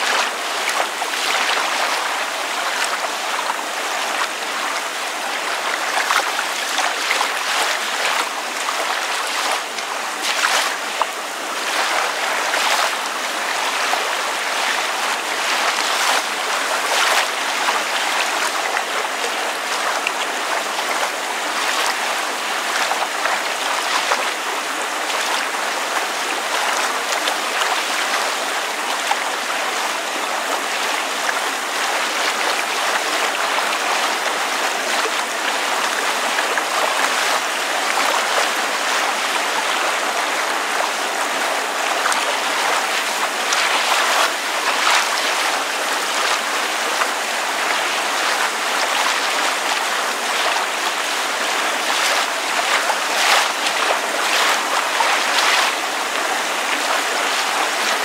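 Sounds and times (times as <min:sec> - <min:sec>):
rain falling: 0:00.0 - 0:58.0
water lapping: 0:00.0 - 0:58.0.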